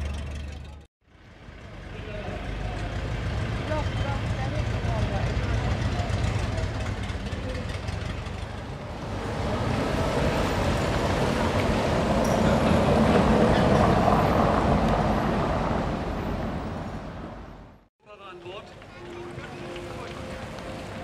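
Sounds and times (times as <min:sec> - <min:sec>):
tyres on cobblestones: 0:00.0 - 0:21.0.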